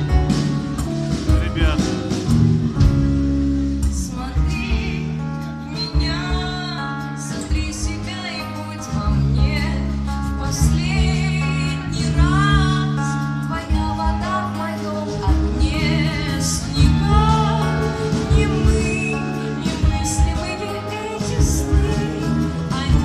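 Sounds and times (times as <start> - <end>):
rock band playing guitars and beat: 0.0 - 23.0
woman singing: 3.8 - 23.0.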